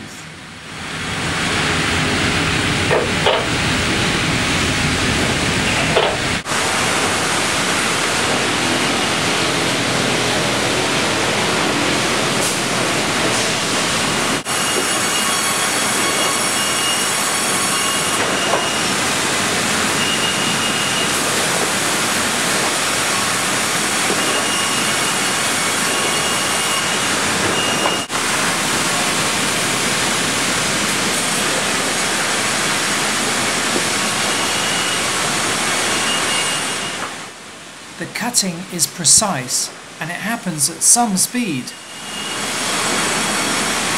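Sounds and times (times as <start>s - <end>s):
thin high whine: 0.0s - 19.2s, 19.8s - 37.4s, 38.0s - 43.9s.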